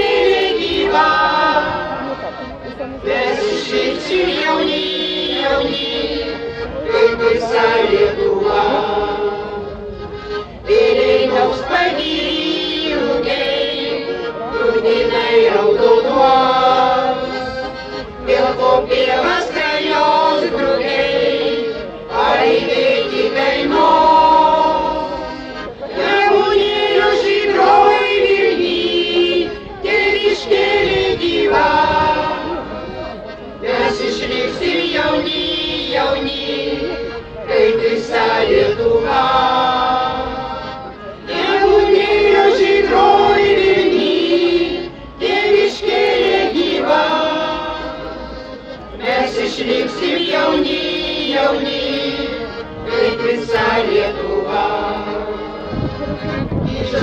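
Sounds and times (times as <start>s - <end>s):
choir singing: 0.0s - 2.3s, 3.0s - 9.7s, 10.6s - 55.8s, 56.5s - 57.0s
piano accordion: 0.0s - 57.0s.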